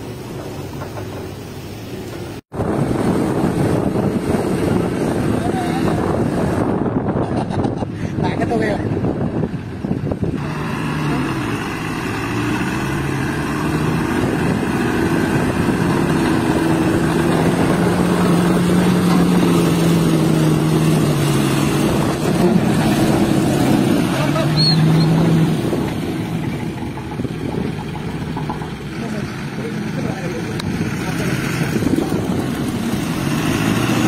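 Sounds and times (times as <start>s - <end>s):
diesel truck engine under load: 0.0s - 34.0s.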